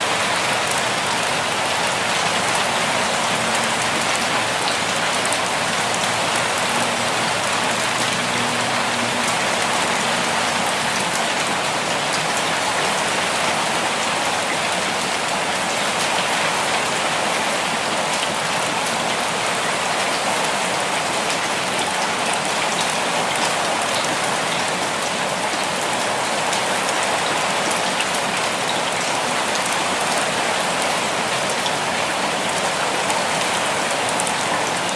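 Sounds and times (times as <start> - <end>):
gentle rainfall: 0.0 - 34.9.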